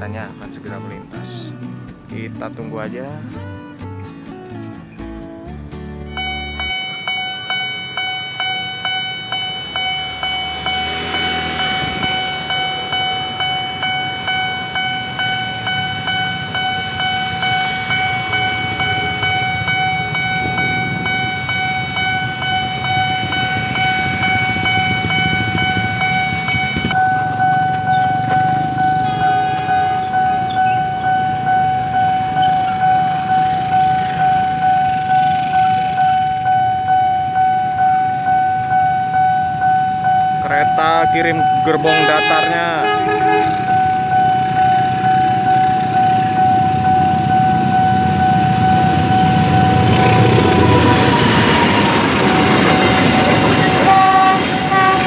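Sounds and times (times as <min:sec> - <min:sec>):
level-crossing warning bell: 0:06.1 - 0:55.0.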